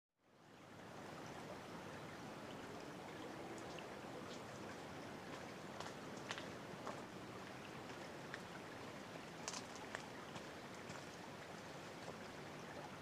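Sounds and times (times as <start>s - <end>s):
stream water rushing: 0.3s - 13.0s.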